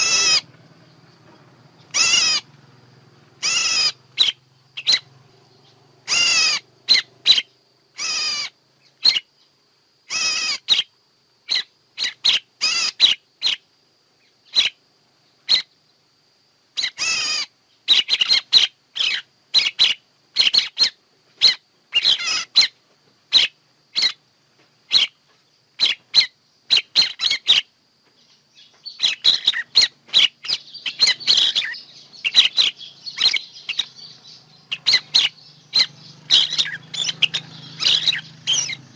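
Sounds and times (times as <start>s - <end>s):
recorded bird calls: 0.0s - 38.9s.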